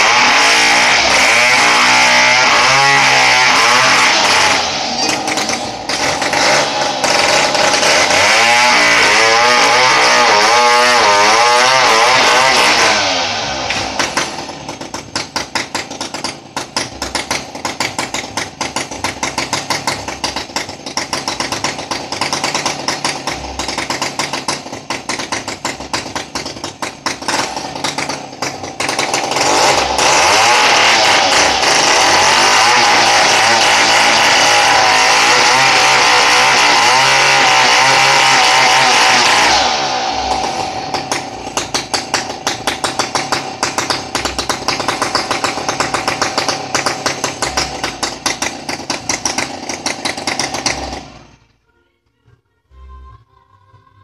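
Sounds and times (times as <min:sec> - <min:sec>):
chainsaw revving and idling: 0:00.0 - 0:51.5.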